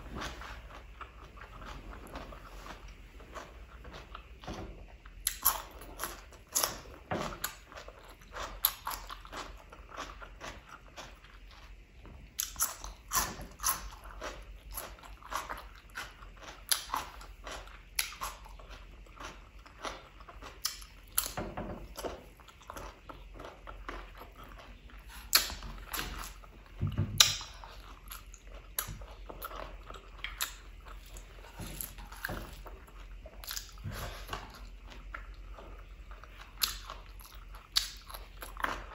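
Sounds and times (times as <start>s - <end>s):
wet chewing: 0.0s - 38.9s.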